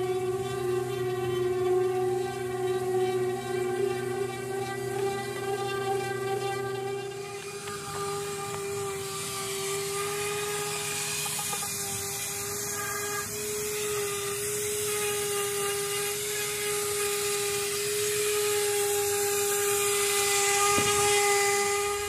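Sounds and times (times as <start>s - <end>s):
power sander whining: 0.0s - 22.0s.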